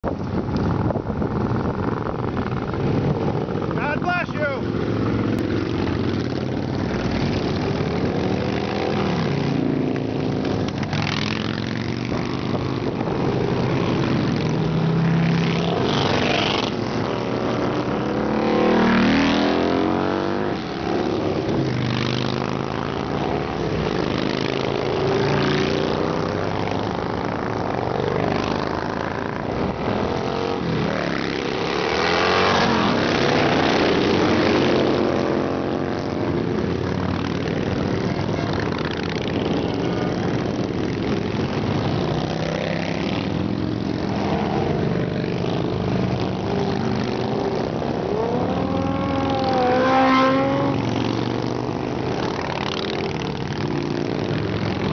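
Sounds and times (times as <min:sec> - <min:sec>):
motorcycles riding past: 0:00.0 - 0:54.9.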